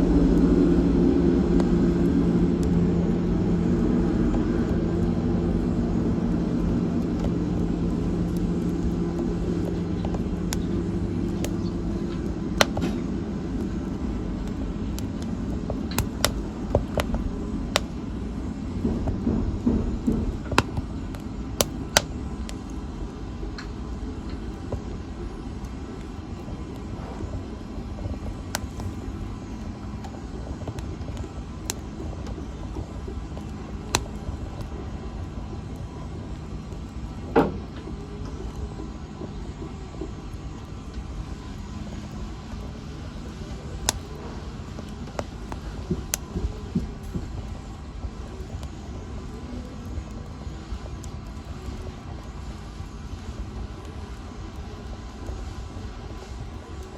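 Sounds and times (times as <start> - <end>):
fire popping: 0.0 - 56.9
wood fire crackling: 0.0 - 56.9.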